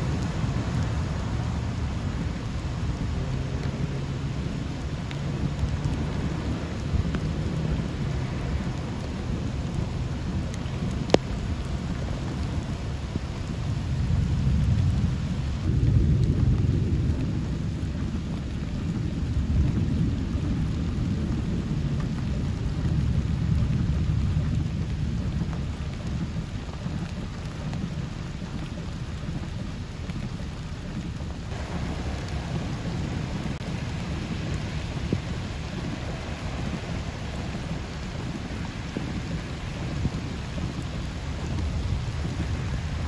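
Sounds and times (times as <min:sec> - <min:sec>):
dense low rumble: 0:00.0 - 0:43.0
heavy rain falling: 0:00.0 - 0:43.0.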